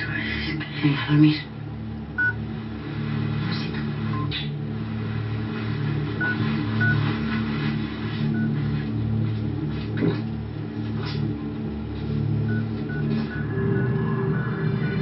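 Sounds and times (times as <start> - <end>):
low electronic hum: 0.0 - 15.0.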